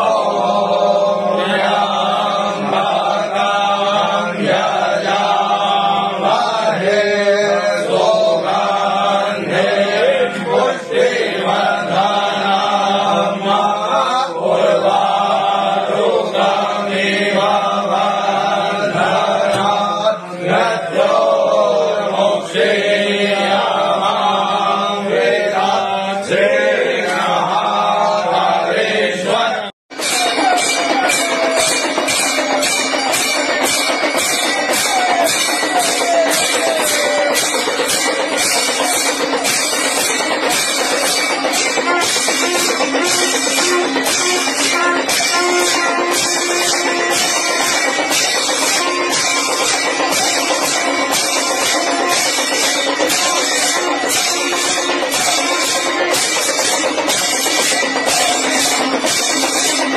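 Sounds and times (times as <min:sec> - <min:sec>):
music with drums: 0:00.0 - 0:28.6, 0:29.9 - 0:59.9
person chanting mantras: 0:00.0 - 0:56.4.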